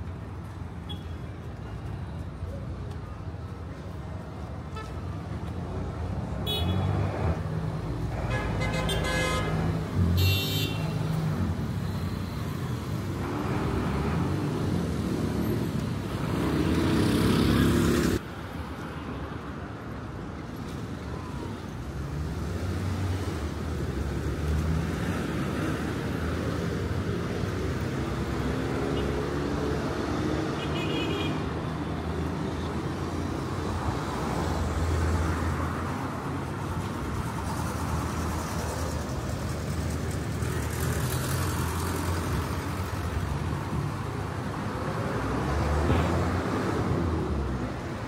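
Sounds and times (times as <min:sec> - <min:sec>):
traffic engines passing: 0:00.0 - 0:48.0.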